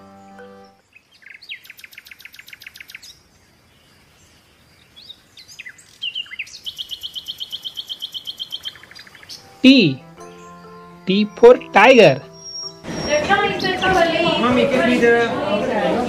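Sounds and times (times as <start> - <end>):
birds chirping in fast trills: 0.2 - 14.7.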